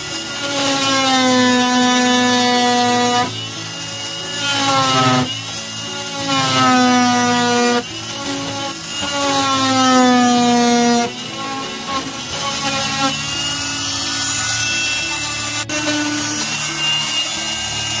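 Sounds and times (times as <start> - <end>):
power tool motor whining: 0.0 - 18.0
quieter grinding: 0.0 - 18.0.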